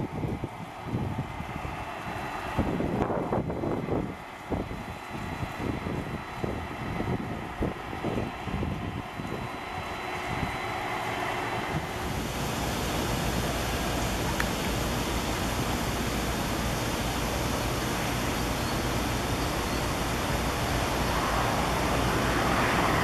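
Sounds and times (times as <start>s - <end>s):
jet engines rushing: 0.0s - 23.0s
wind on microphone: 0.0s - 23.0s.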